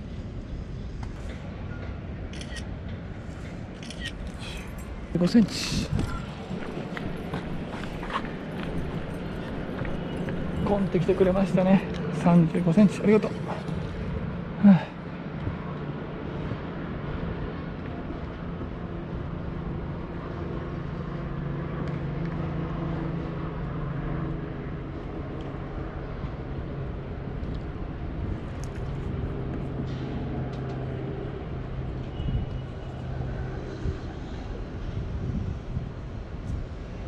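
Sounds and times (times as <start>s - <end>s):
low engine drone: 0.0s - 37.0s.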